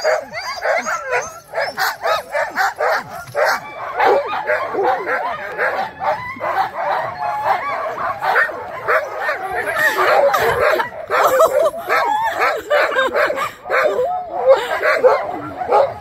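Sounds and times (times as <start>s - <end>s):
huskies yipping and barking: 0.0s - 16.0s.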